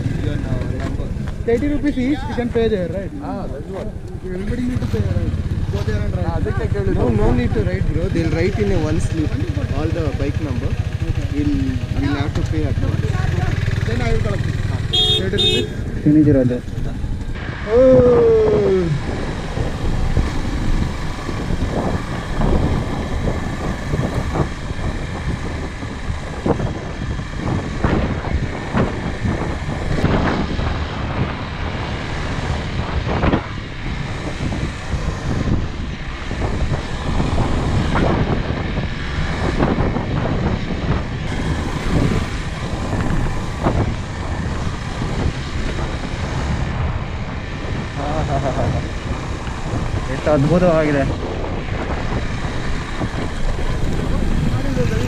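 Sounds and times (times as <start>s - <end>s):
motorcycle engine running: 0.0s - 17.4s, 18.7s - 55.0s
wind buffeting microphone: 0.0s - 55.0s.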